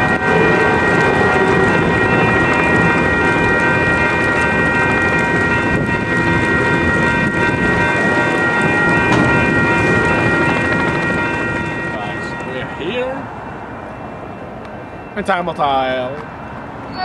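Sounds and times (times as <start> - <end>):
crossing warning bells ringing: 0.0 - 17.0
train cars rumbling past: 0.0 - 17.0.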